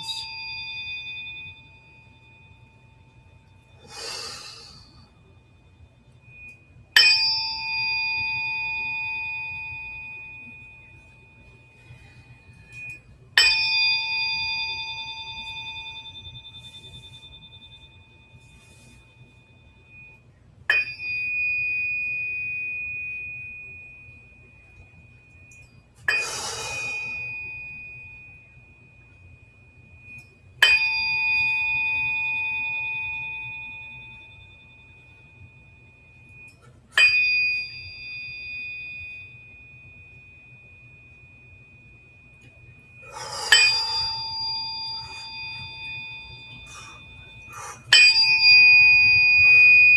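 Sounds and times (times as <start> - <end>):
tuning forks ringing: 0.0 - 49.9.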